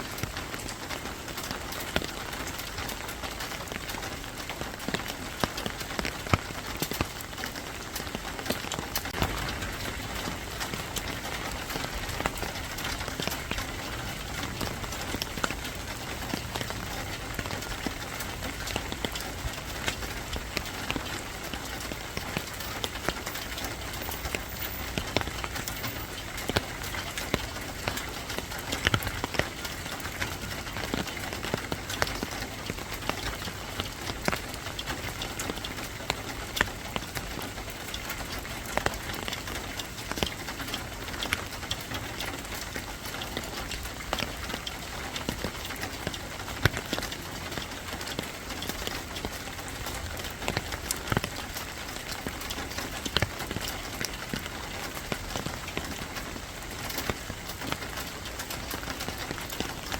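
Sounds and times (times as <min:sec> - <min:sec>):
rain falling: 0:00.0 - 0:59.9
sharp raindrop hits: 0:00.0 - 0:59.9.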